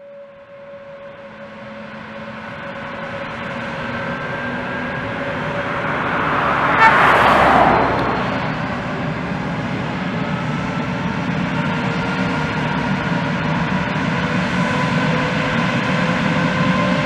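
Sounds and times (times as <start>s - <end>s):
jet engines rushing and whining: 0.4s - 17.0s.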